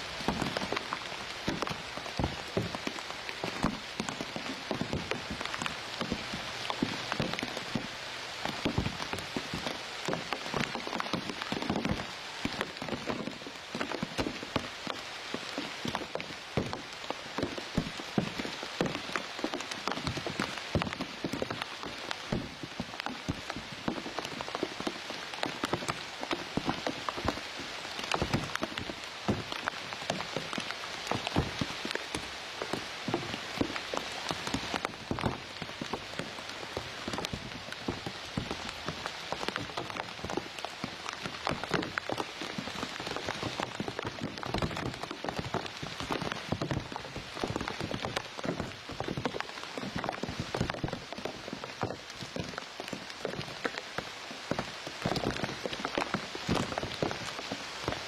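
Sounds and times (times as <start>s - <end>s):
rain on leaves and grass: 0.0s - 58.0s.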